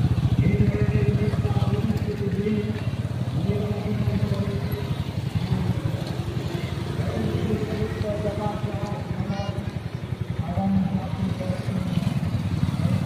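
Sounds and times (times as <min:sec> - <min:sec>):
small motorcycles riding past: 0:00.0 - 0:13.0.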